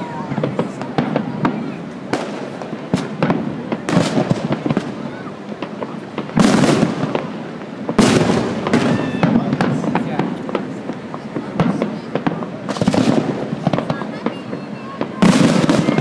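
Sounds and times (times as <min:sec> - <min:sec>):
big firework bangs rumbling: 0:00.0 - 0:16.0
fireworks cracking and popping: 0:00.0 - 0:16.0.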